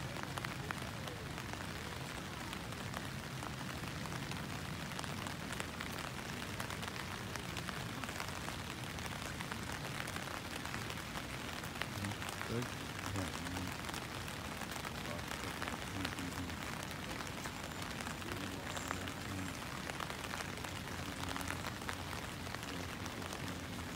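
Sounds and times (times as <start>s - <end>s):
light rain hissing: 0.0s - 23.9s
small raindrop ticks: 0.0s - 23.9s.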